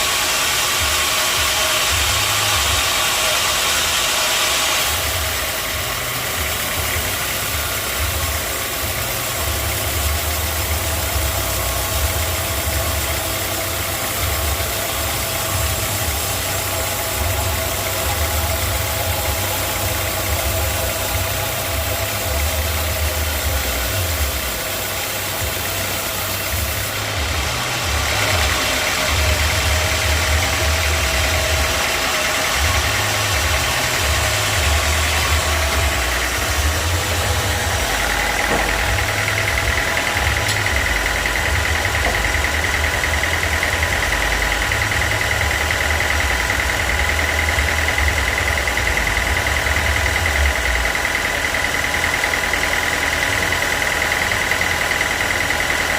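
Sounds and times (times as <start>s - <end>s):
high steady whine: 0.0s - 55.9s
sawmill machinery humming: 0.0s - 55.9s.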